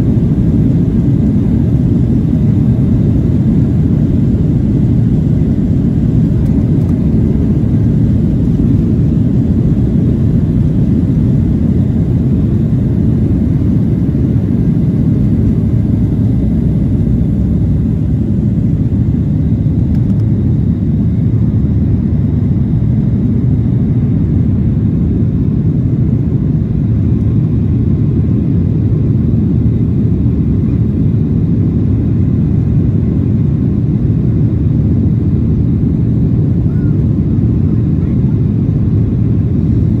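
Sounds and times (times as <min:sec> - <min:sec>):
jet engines rumbling in cabin: 0:00.0 - 0:40.0.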